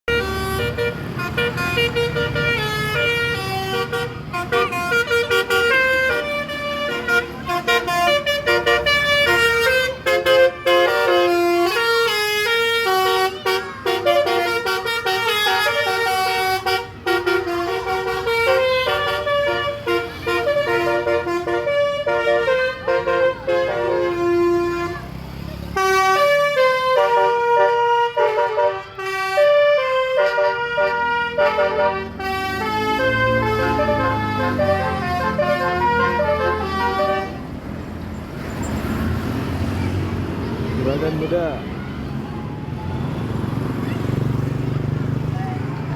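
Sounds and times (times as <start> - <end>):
bus horn playing a tune: 0.0 - 37.7.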